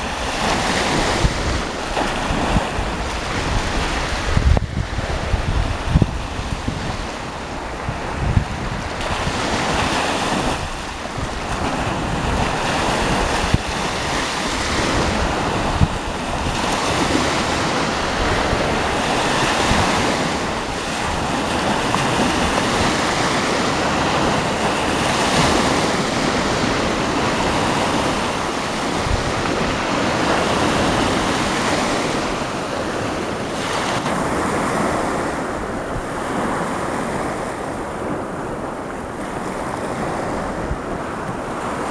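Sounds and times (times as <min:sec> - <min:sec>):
sea surf washing in: 0:00.0 - 0:41.9
wind rumbling on microphone: 0:00.0 - 0:41.9.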